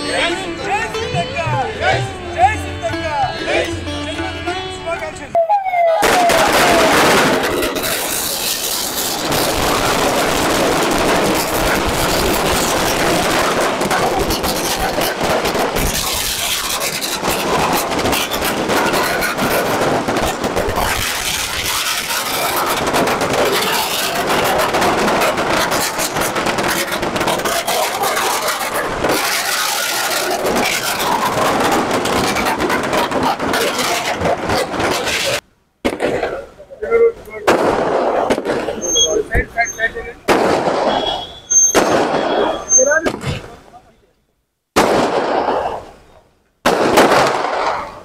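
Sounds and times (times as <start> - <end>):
firecrackers crackling: 5.4 - 43.8, 44.7 - 48.0.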